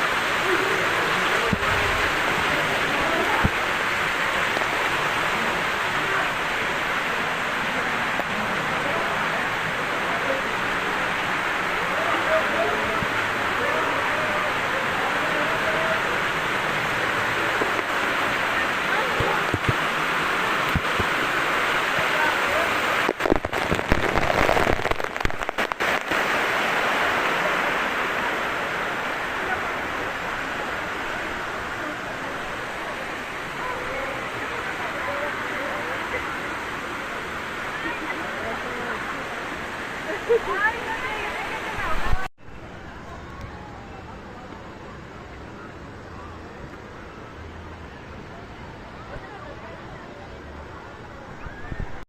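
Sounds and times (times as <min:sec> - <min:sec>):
water falling and splashing: 0:00.0 - 0:43.4.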